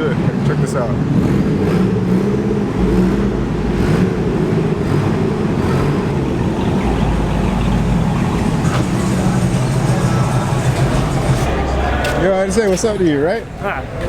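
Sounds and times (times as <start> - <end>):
car engines running: 0.0 - 14.0.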